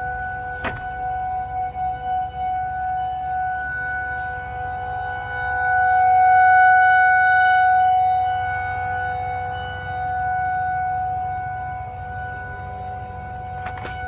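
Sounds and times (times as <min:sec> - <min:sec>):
outdoor warning siren: 0:00.0 - 0:14.0.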